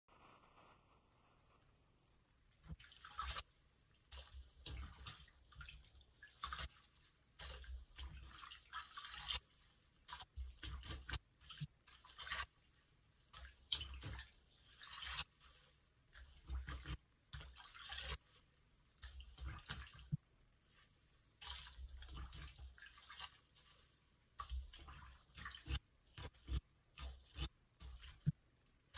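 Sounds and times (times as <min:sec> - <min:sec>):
water dripping: 0:02.0 - 0:28.9
sponge squishing underwater: 0:02.6 - 0:28.9.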